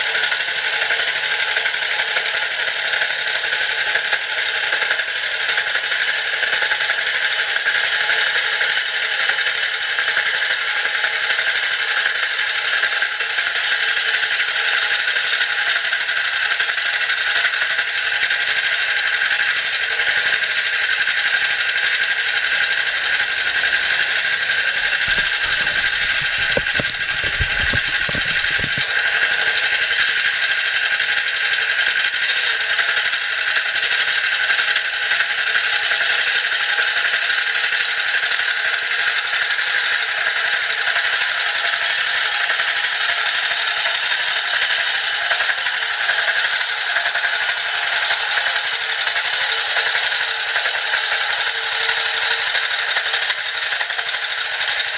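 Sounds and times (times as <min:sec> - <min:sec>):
small engine idling: 0:00.0 - 0:54.9.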